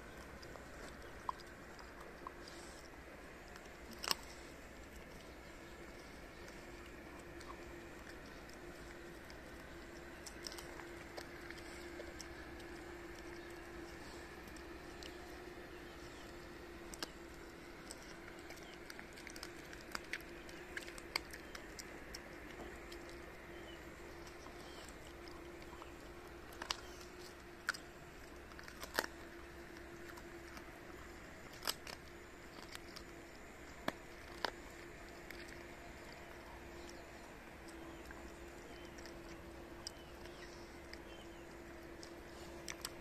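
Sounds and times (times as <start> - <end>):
dog crunching bones: 0.0 - 43.0
faint steady hum: 0.0 - 43.0.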